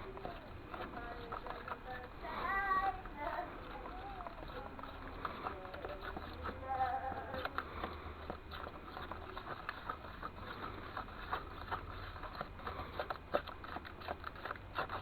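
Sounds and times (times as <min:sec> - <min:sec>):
steady low hum: 0:00.0 - 0:15.0
tool scraping wet plaster mix: 0:00.0 - 0:15.0.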